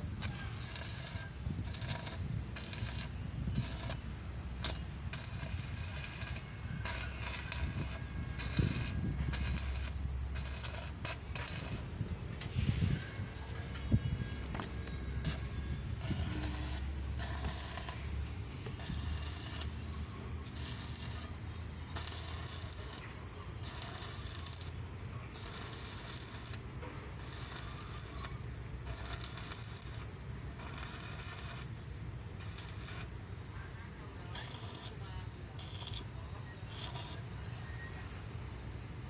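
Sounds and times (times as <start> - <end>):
welding arc crackling and sizzling: 0.0 - 33.2, 34.3 - 37.4.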